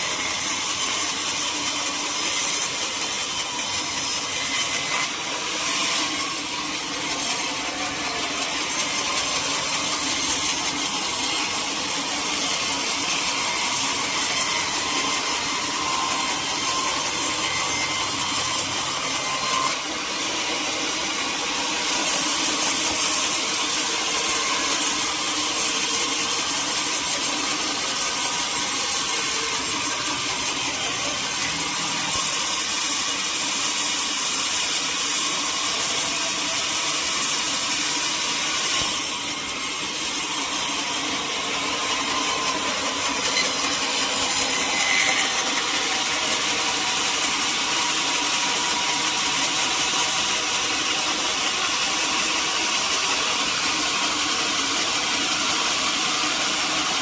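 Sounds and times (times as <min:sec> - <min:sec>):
sawmill saw cutting wood: 0:00.0 - 0:57.0.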